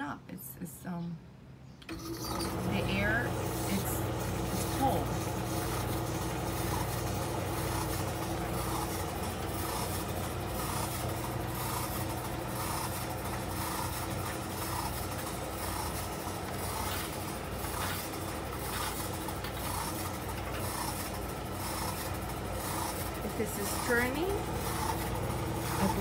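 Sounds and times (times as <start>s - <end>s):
tumble dryer motor hum: 1.8s - 26.0s.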